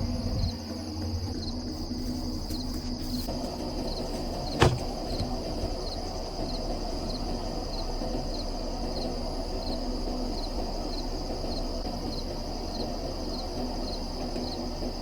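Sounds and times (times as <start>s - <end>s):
low rumble: 0.0s - 13.7s
insects buzzing: 0.0s - 15.0s.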